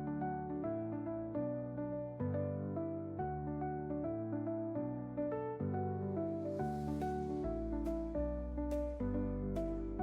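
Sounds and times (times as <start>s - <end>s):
gentle keyboard chords: 0.0s - 10.0s.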